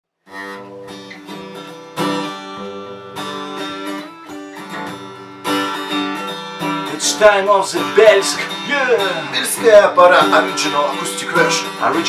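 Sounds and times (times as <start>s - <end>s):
acoustic guitar strumming chords: 0.2s - 12.0s.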